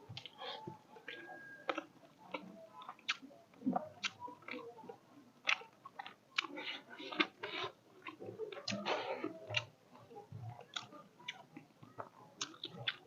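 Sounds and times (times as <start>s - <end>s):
person chewing and lip-smacking: 0.1s - 13.0s.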